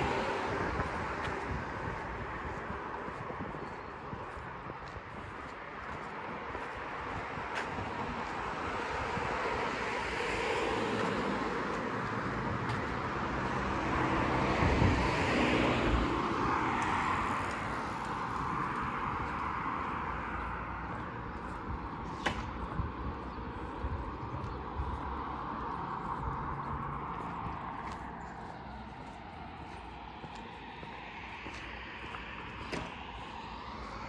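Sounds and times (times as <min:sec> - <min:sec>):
faint traffic noise: 0:00.0 - 0:34.0.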